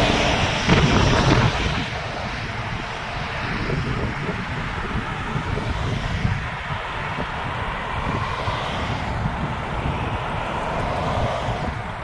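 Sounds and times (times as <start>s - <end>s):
trucks driving past: 0.0s - 12.0s.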